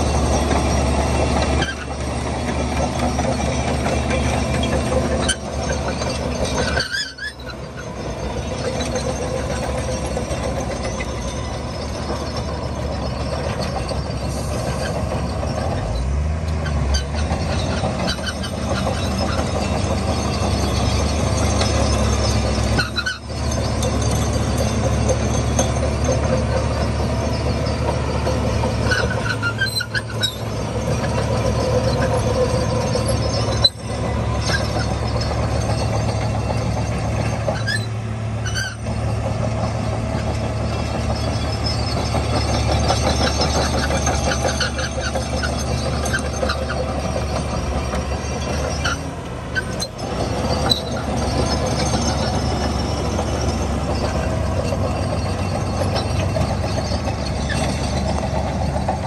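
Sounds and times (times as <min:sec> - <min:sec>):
bulldozer diesel engine: 0:00.0 - 0:59.0
high squeaks of tracks: 0:00.0 - 0:59.0
steel tracks clanking: 0:00.0 - 0:59.0.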